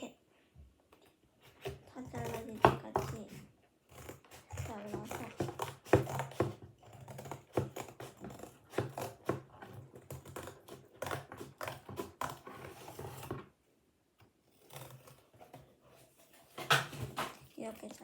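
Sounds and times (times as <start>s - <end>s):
scissors cutting cardboard: 0.9s - 13.6s, 14.2s - 18.0s.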